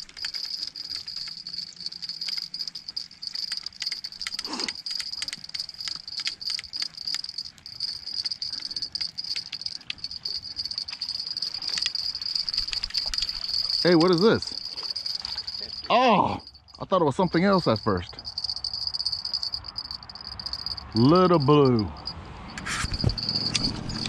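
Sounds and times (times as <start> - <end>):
insects trilling: 0.0 - 24.0
sharp clicks and rattles: 0.0 - 24.0.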